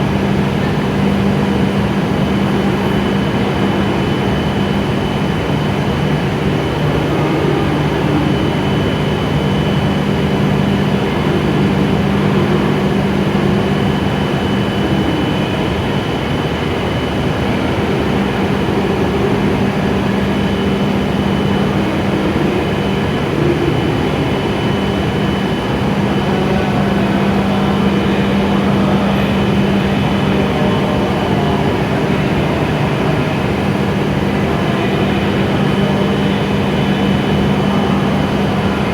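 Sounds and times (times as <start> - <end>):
faint high whine: 0.0 - 38.9
train equipment humming: 0.0 - 38.9.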